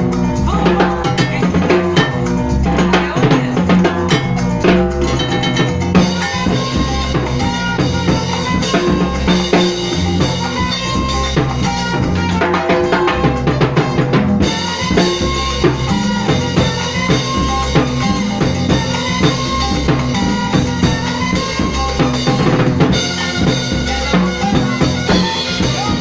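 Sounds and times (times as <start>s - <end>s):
latin dance band playing: 0.0s - 26.0s.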